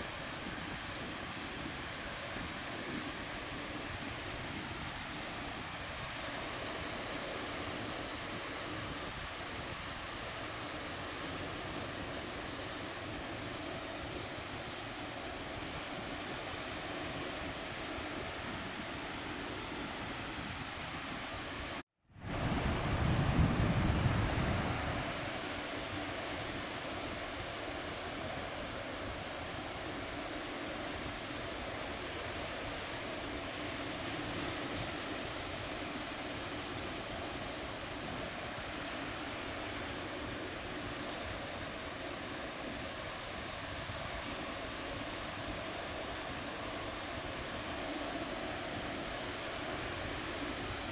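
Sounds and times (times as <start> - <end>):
ocean surf washing: 0.0 - 50.9.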